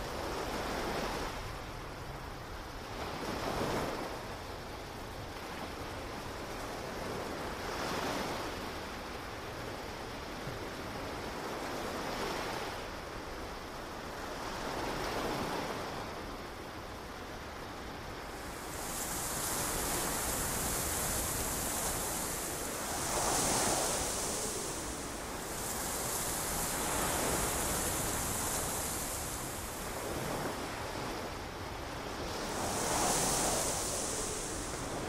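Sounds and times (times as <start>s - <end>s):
ocean surf washing onto beach: 0.0s - 35.0s.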